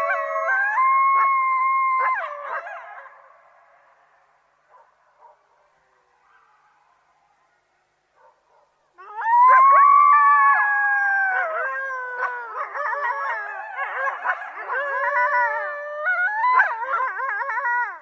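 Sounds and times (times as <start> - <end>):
coyotes howling and yipping: 0.0 - 7.6, 8.2 - 18.0.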